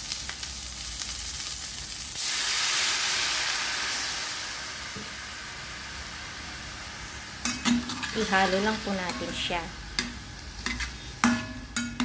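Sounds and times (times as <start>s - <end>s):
tomatoes sizzling: 0.0s - 12.0s
water hissing in hot pan: 0.0s - 12.0s.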